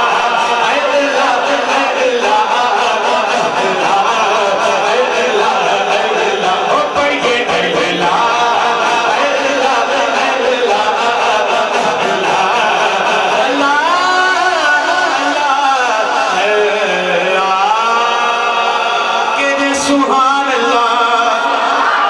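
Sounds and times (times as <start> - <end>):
man singing devotional chant: 0.0 - 21.6.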